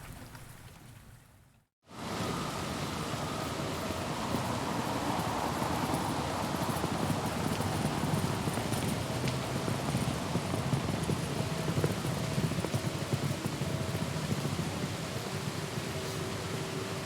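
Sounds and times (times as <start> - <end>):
steady rain falling: 2.0 - 17.0.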